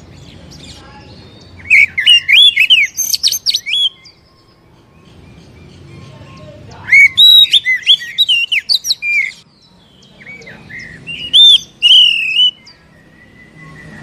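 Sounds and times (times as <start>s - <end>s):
bird singing whistled notes: 0.0s - 14.0s.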